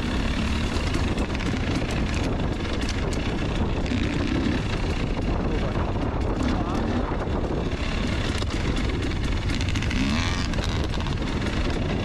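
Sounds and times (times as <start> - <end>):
dirt bike engine running: 0.0 - 12.0
wind buffeting microphone: 0.0 - 12.0.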